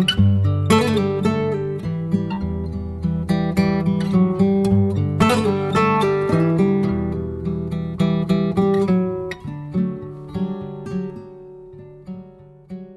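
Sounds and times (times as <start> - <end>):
acoustic guitar strumming: 0.0 - 12.9.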